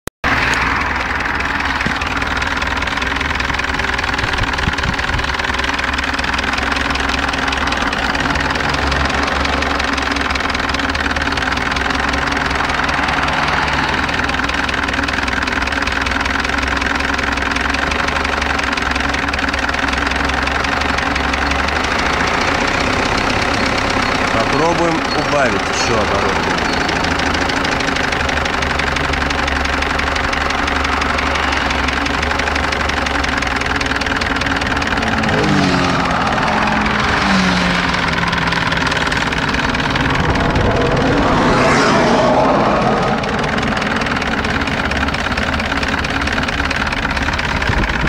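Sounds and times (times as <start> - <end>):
car engine idling: 0.2 - 48.0.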